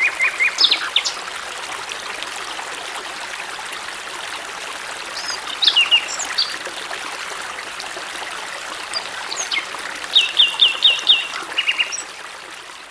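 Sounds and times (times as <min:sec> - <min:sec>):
stream trickling: 0:00.0 - 0:12.9.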